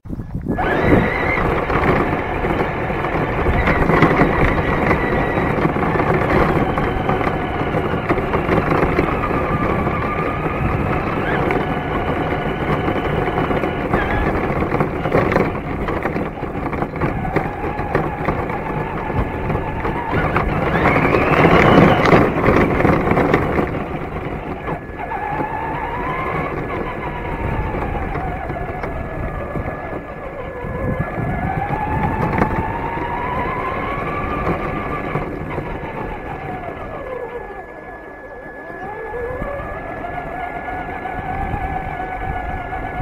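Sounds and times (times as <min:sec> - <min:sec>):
tyres rumbling on gravel: 0:00.0 - 0:43.0
electric motor whining: 0:00.2 - 0:43.0.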